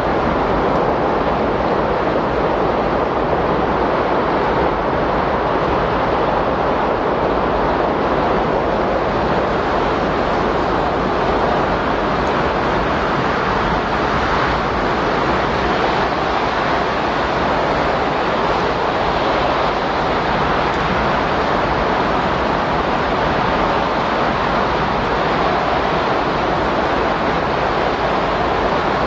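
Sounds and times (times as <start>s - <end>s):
loud rushing wind: 0.0s - 29.0s.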